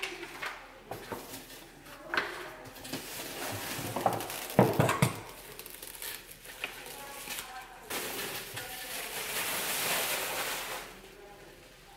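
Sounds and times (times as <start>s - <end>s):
cardboard and plastic bag rustling: 1.0s - 11.0s.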